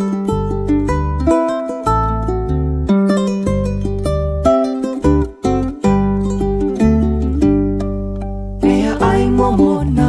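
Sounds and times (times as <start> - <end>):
steady bass notes: 0.0 - 10.0
ukulele picking quick notes: 0.0 - 10.0.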